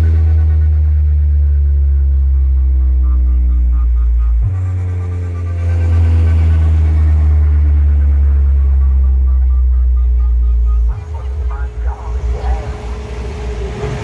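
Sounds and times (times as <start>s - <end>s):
deep bass drone: 0.0s - 14.0s
faint repeating higher pattern: 0.2s - 14.0s.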